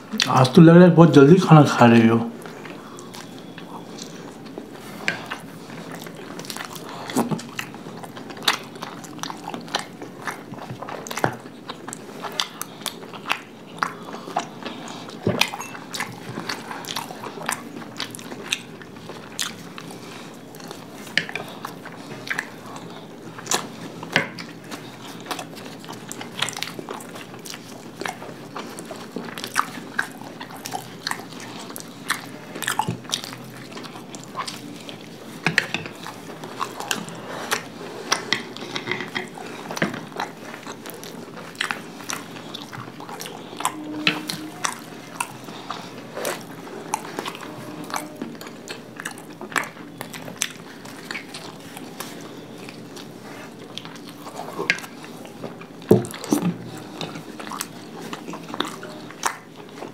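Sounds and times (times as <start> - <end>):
chewing and lip-smacking: 2.4 - 59.9.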